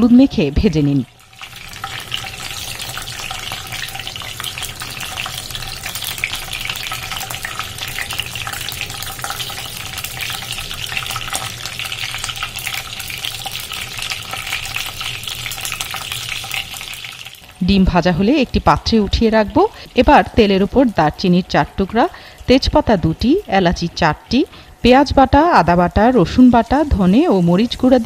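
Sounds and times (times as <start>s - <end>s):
hot oil sizzling and crackling: 0.0s - 28.0s.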